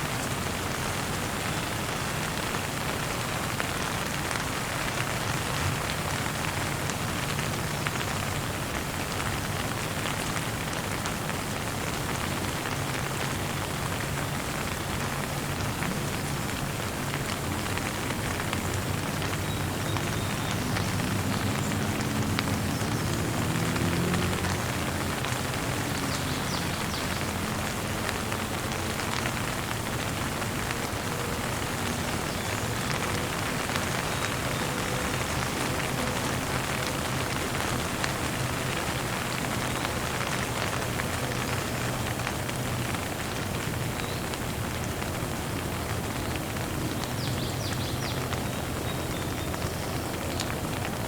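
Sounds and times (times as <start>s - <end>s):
light rain falling: 0.0s - 51.0s.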